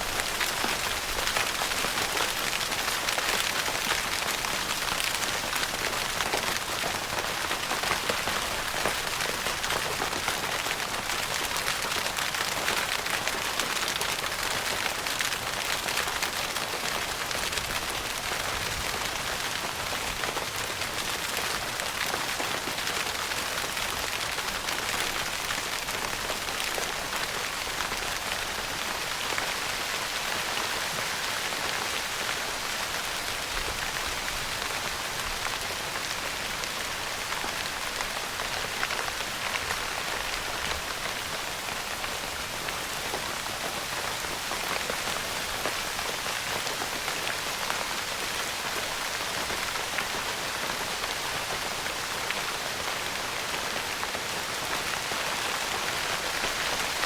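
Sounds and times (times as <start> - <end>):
rain on a tent roof: 0.0 - 57.0.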